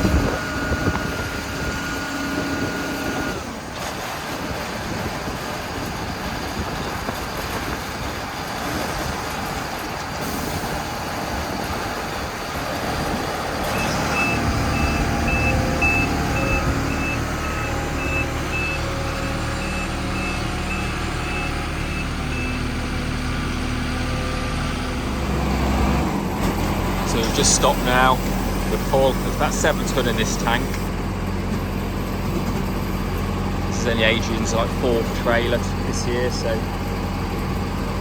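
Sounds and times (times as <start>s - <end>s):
harvester engine and machinery: 0.0s - 38.0s.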